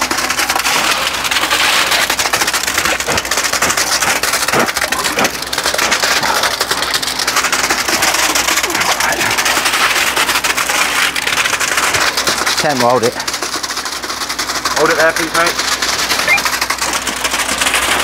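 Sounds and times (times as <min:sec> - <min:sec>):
wet concrete pouring hiss: 0:00.0 - 0:18.0.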